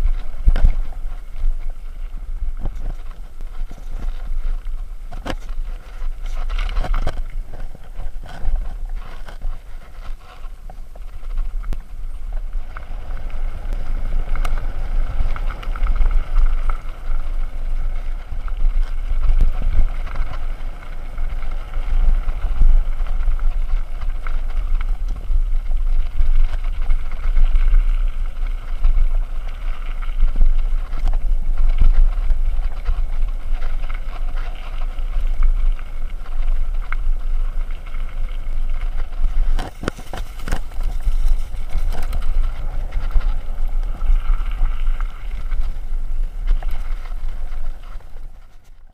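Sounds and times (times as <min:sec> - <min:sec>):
bike rattling over bumps: 0:00.0 - 0:48.9
tyre noise on dirt: 0:00.0 - 0:48.9
wind buffeting microphone: 0:00.0 - 0:48.9.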